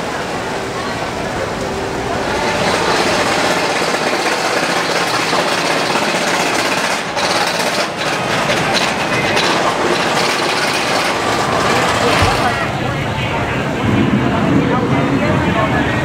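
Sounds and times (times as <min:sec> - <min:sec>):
roller coaster train rushing: 0:00.0 - 0:16.0.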